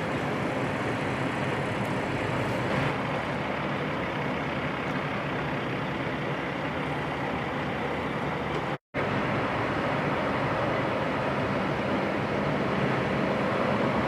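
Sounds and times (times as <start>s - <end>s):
truck diesel engines running: 0.0s - 14.0s.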